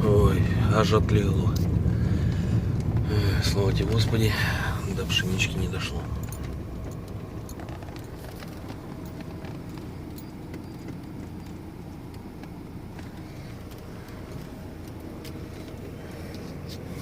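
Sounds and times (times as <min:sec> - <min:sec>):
car interior rumble: 0:00.0 - 0:17.0
light rattles and clicks: 0:00.0 - 0:17.0.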